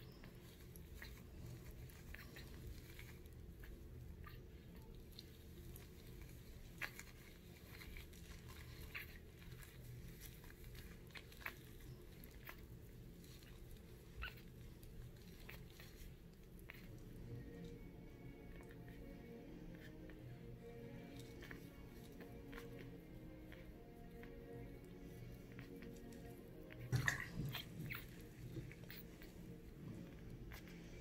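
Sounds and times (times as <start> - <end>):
low steady hum: 0.0 - 31.0
wet fur drips and squishes: 0.0 - 31.0.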